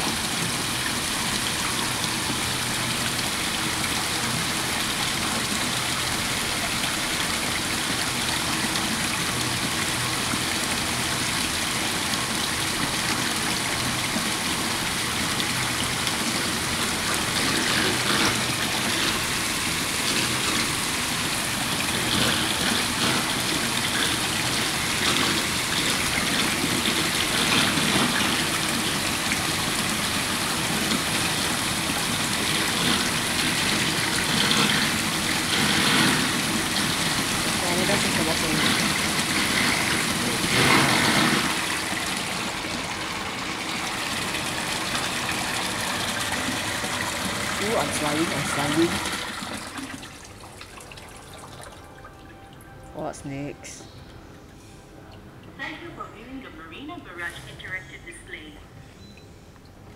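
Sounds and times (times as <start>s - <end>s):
water pouring into a trough: 0.0s - 52.8s.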